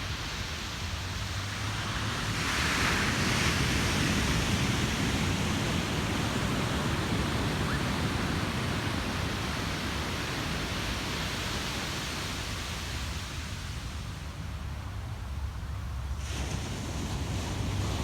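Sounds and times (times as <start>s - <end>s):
ocean surf washing onto beach: 0.0s - 15.3s, 15.9s - 18.0s.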